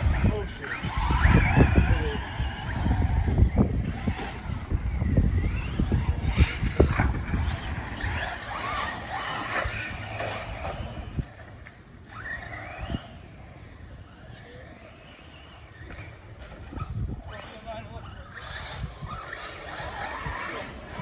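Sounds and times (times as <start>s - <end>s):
toy car motor whining: 0.0s - 21.0s.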